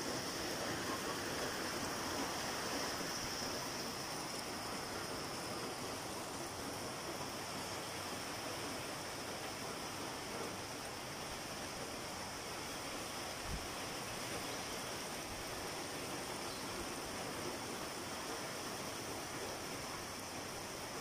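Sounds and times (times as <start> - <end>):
wind and heavy rain: 0.0 - 21.0.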